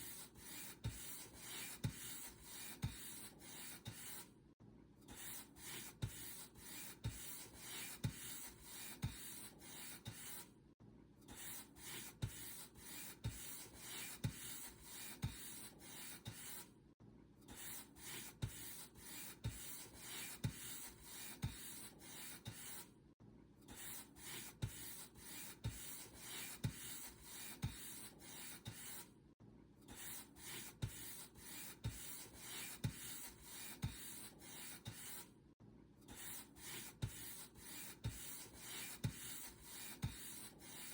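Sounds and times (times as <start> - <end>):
paint brush stroking a surface: 0.0 - 4.3, 5.2 - 10.5, 11.4 - 16.7, 17.6 - 22.8, 23.8 - 29.0, 30.0 - 35.3, 36.2 - 40.9.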